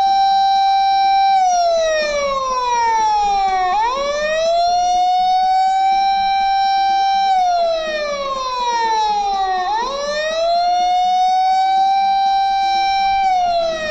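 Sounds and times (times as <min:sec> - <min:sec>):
electronic siren wailing: 0:00.0 - 0:13.9.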